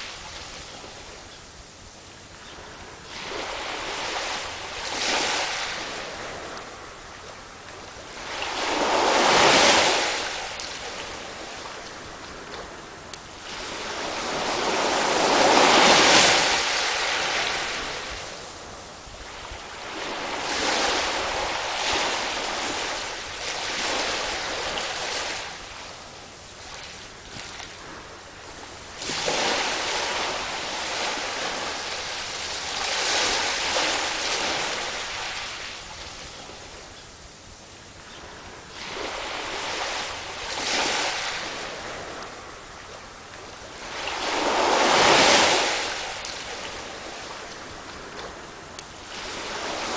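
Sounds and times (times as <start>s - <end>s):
sea waves breaking: 3.0s - 36.7s, 38.6s - 49.9s.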